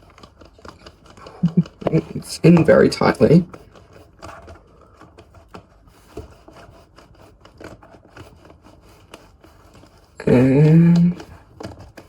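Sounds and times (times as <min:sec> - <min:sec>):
scraping and rubbing of packaging: 0:00.0 - 0:12.0.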